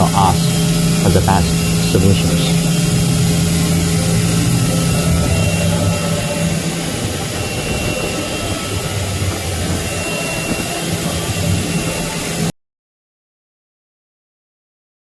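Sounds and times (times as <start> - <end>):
low machine hum: 0.0 - 12.5
machine hissing: 0.0 - 12.5.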